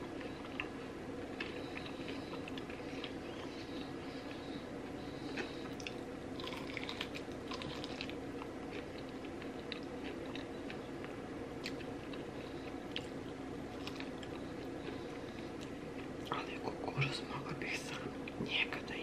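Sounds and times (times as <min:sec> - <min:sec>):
chewing and crunching food: 0:00.0 - 0:16.8
steady low hum: 0:00.0 - 0:19.0.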